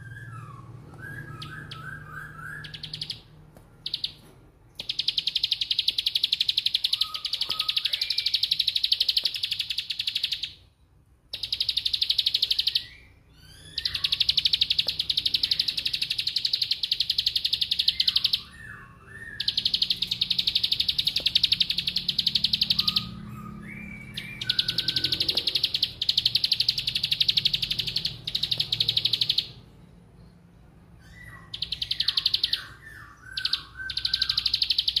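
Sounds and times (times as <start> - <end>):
bird lower chirps: 0.0 - 35.0.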